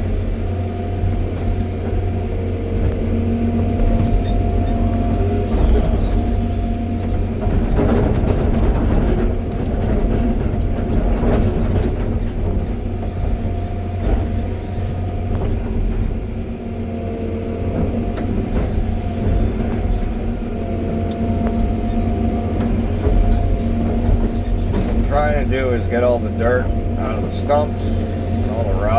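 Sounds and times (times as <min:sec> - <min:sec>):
excavator diesel engine running: 0:00.0 - 0:28.9
knocks and clanks: 0:03.6 - 0:16.4, 0:17.7 - 0:28.7.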